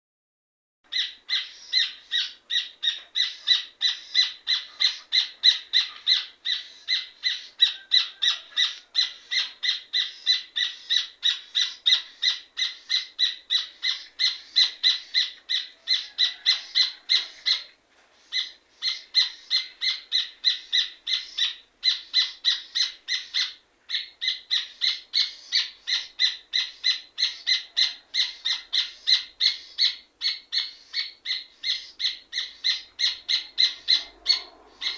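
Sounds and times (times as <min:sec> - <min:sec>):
bird singing rapid repeated notes: 0:00.9 - 0:34.9.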